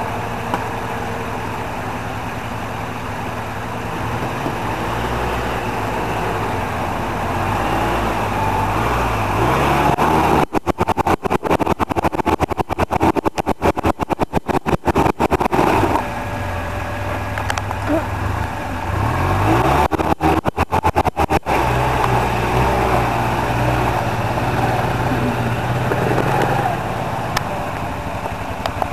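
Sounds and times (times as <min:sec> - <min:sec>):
utility vehicle engine revving: 0:00.0 - 0:28.9.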